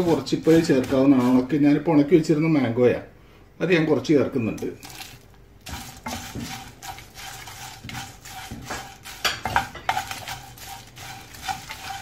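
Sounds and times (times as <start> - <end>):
wooden spatula stirring dry spices: 0.0 - 2.3, 4.4 - 12.0.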